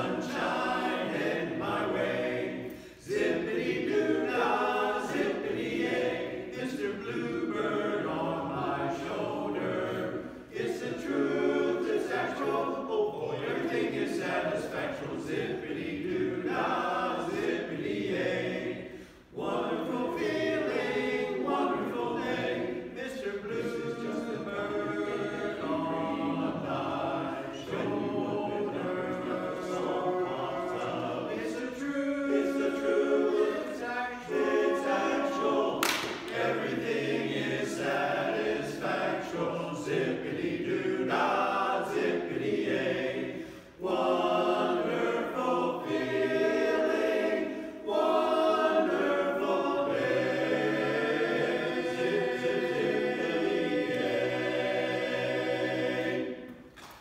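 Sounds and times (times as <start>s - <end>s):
chorus singing a cappella: 0.0s - 57.0s.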